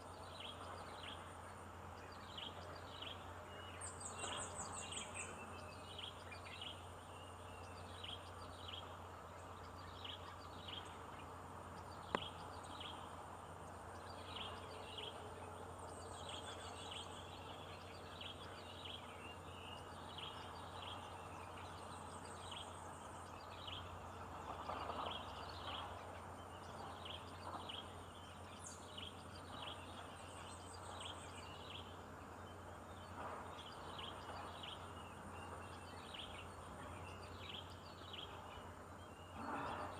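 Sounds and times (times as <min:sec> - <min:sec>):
low outdoor hum: 0:00.0 - 0:39.9
bird chirping: 0:00.1 - 0:39.9.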